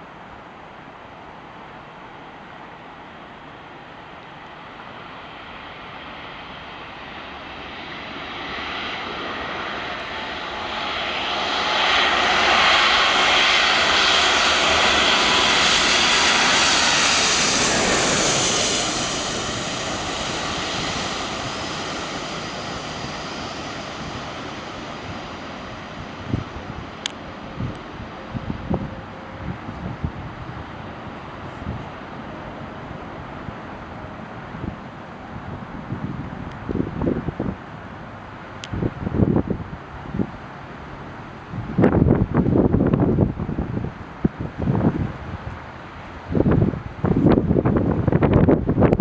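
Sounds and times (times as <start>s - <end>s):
jet engines roaring past: 1.5s - 49.0s.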